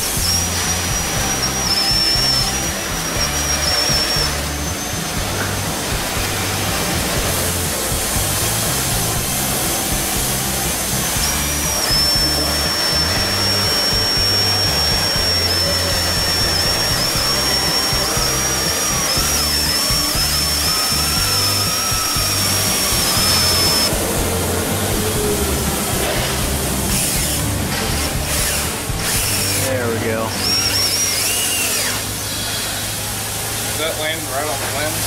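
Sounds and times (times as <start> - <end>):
music with steady beat: 0.0 - 31.0
drill hole saw cutting metal: 0.0 - 35.0.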